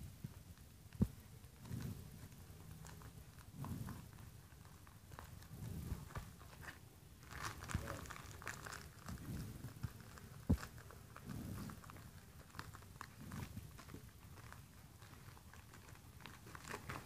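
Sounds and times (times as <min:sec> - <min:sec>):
plastic crinkling: 0:01.4 - 0:17.0.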